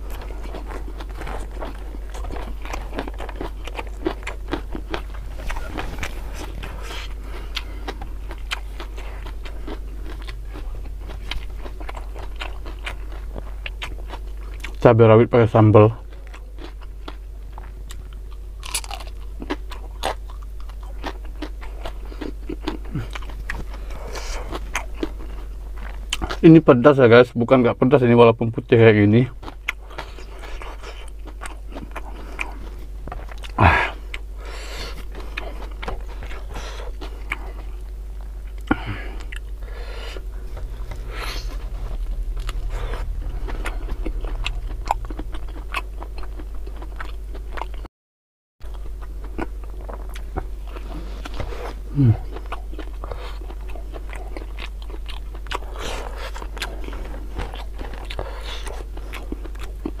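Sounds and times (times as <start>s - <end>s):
person chewing food: 0.0s - 14.9s, 15.9s - 26.5s, 29.3s - 47.9s, 48.6s - 60.0s
low hum: 0.0s - 26.2s, 26.9s - 47.9s, 48.6s - 60.0s.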